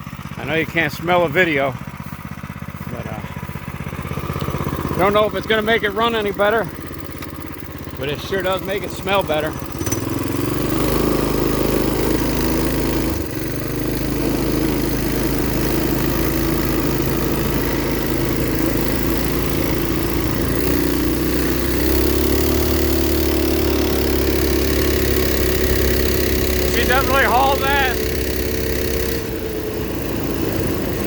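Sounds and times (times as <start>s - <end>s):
minibike small engine running: 0.0s - 31.0s.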